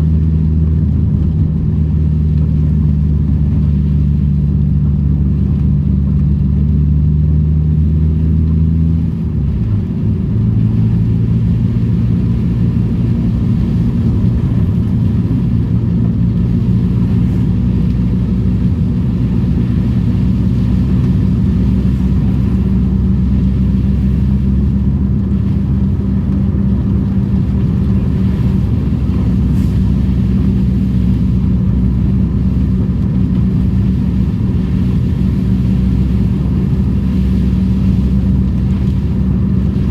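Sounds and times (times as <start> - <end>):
car engine running: 0.0 - 39.9
road noise hiss: 0.0 - 39.9.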